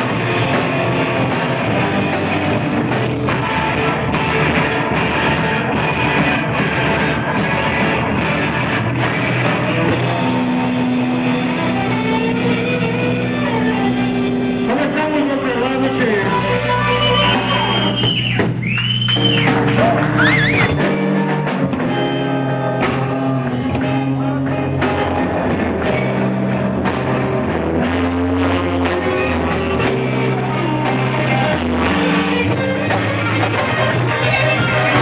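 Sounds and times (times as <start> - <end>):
blues-rock band playing: 0.0 - 35.0
guitar notes bending in pitch: 0.0 - 35.0.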